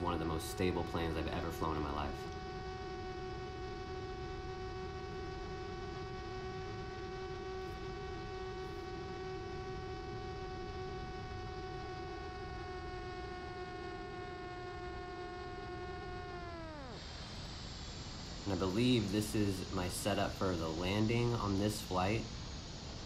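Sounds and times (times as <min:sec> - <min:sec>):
electric motor and propeller whine: 0:00.0 - 0:23.0.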